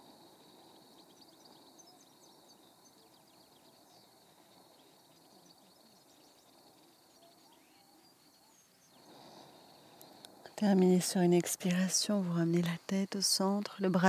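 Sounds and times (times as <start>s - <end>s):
distant bird chirps: 0.0s - 13.4s
faint background hiss: 0.0s - 14.0s.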